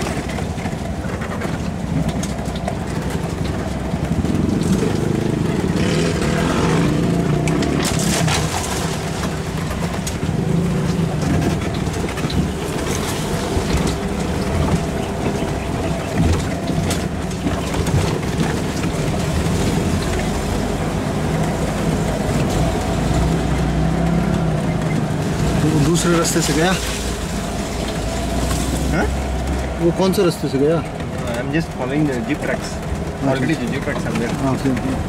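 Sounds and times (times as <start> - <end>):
small vehicle engine running: 0.0 - 35.0.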